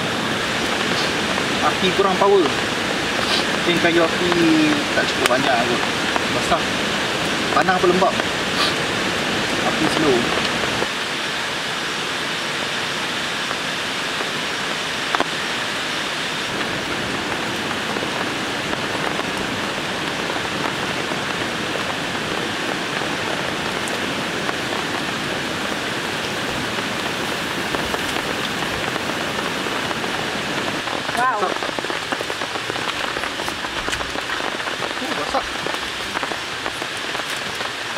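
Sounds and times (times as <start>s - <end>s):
steady rain hiss: 0.0s - 37.9s.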